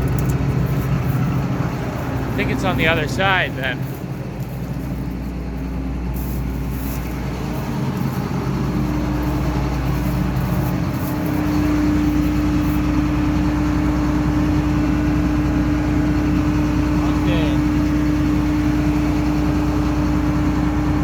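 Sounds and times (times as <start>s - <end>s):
combine harvester drone: 0.0s - 21.0s
constant hum: 0.0s - 21.0s.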